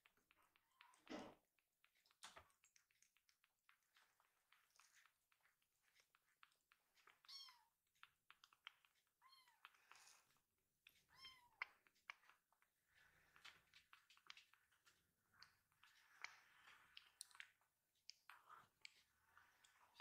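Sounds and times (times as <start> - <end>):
wet suckling clicks: 0.0 - 20.0.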